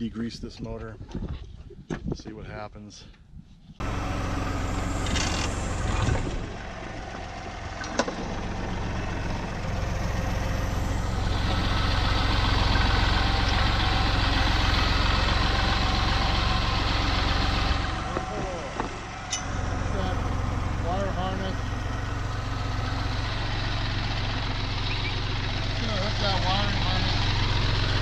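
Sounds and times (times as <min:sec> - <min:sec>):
tractor engine running: 0:03.8 - 0:28.0.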